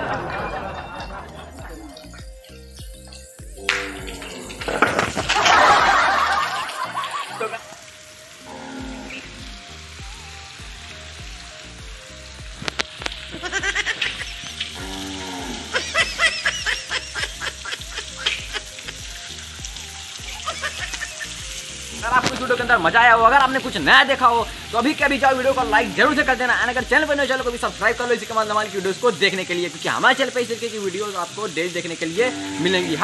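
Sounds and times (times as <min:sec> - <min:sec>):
background music: 0:00.0 - 0:33.0
water spraying from pipes: 0:00.0 - 0:33.0.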